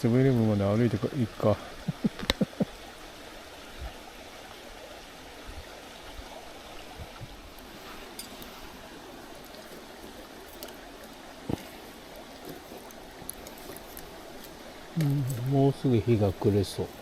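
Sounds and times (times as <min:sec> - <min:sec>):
stream babbling over rocks: 0:00.0 - 0:17.0.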